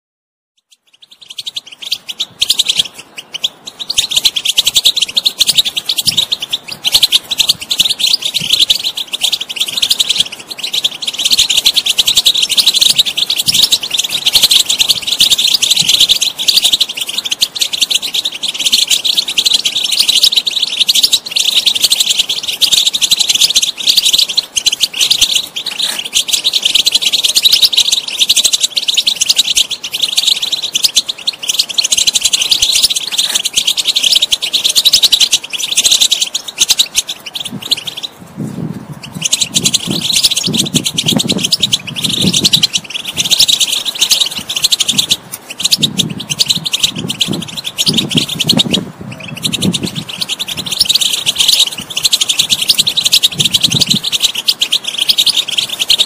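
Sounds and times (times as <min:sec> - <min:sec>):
finch twittering song: 0:00.6 - 0:56.0.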